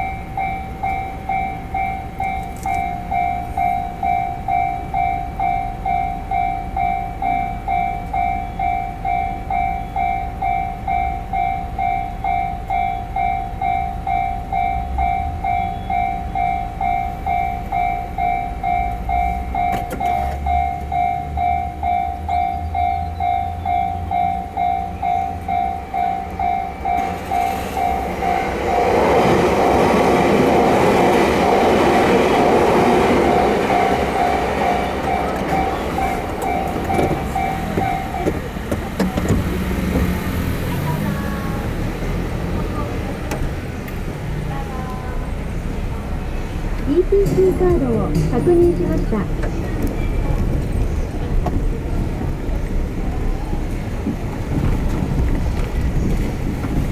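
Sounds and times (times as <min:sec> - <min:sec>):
level crossing warning bell ringing: 0:00.0 - 0:56.9
train passing over crossing: 0:00.0 - 0:56.9.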